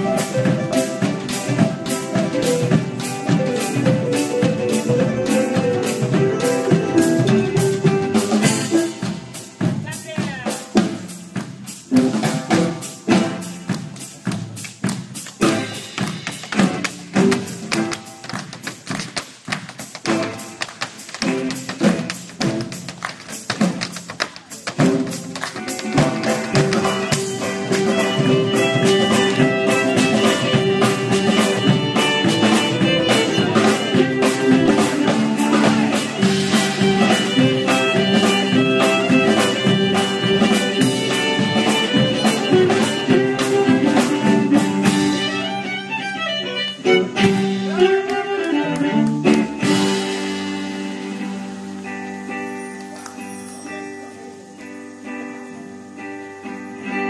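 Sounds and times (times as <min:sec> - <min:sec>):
percussion strikes: 0:00.0 - 0:45.9, 0:46.7 - 0:57.0
live band music: 0:00.0 - 0:57.0.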